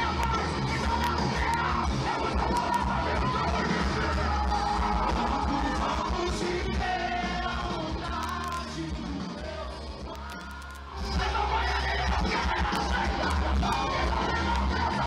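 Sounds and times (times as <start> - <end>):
crowd yelling along: 0.0 - 15.0
live rock band playing: 0.0 - 15.0.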